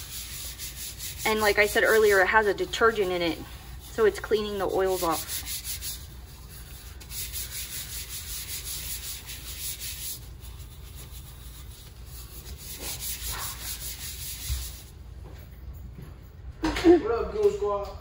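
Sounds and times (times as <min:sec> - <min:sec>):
rhythmic wet scrubbing: 0:00.0 - 0:14.9.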